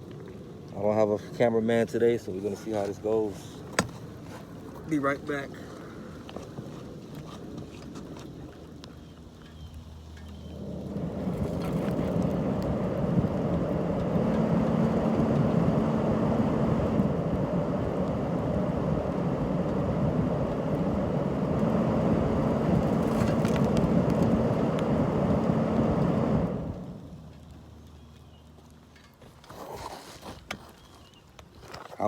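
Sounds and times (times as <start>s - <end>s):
blower forcing air through duct: 0.0s - 27.4s.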